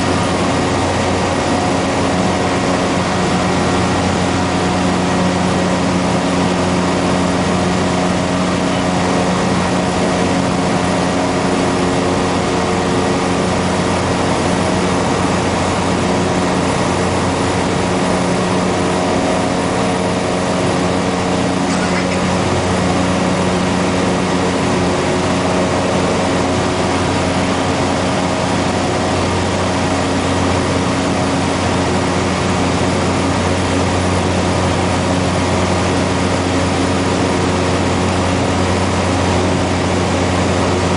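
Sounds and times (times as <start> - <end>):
turboprop engine humming: 0.0 - 40.9.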